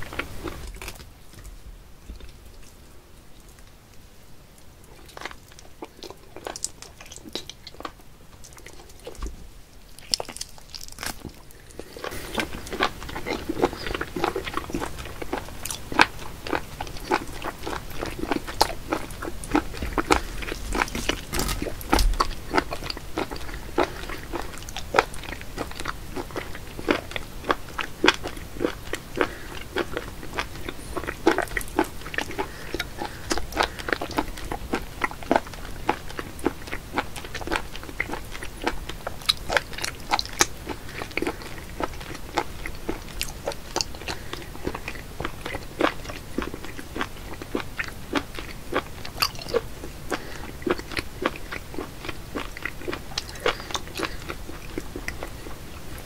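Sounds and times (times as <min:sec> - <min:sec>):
person chewing with mouth sounds: 0:00.0 - 0:02.8, 0:04.8 - 0:56.0.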